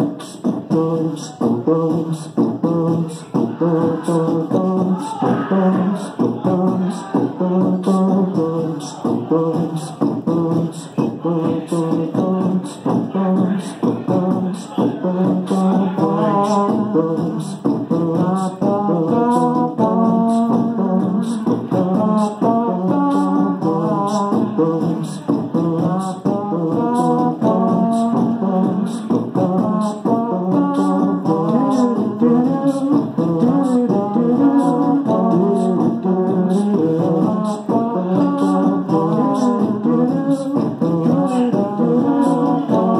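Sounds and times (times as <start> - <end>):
beatboxing: 0.0 - 42.9
vocal melody: 0.0 - 42.9.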